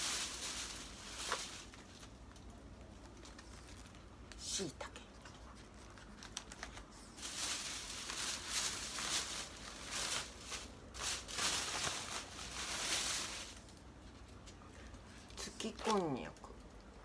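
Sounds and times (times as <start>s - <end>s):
plastic bags rustling: 0.0s - 4.4s, 5.1s - 17.0s.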